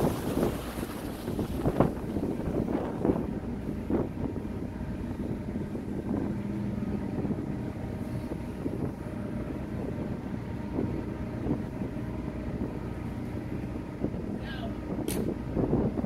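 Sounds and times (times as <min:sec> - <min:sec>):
ferry engines rumbling: 0:00.0 - 0:16.0
wind gusting on microphone: 0:00.0 - 0:16.0.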